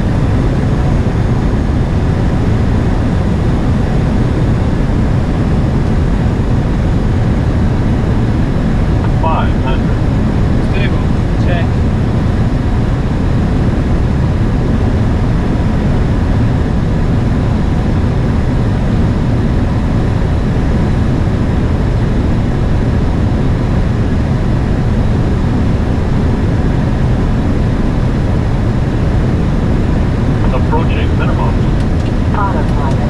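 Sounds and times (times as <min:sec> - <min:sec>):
aircraft engine and airflow noise: 0:00.0 - 0:33.0.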